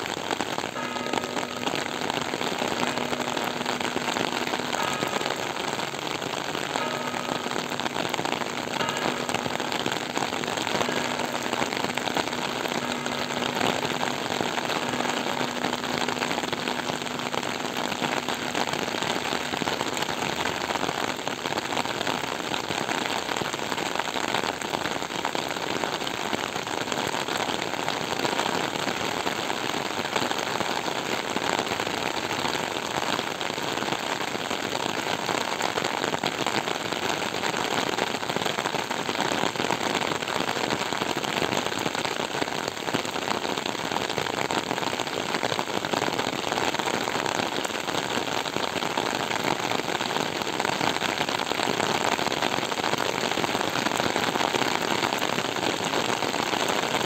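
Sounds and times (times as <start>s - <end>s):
rain falling on wet paving: 0.0s - 57.0s.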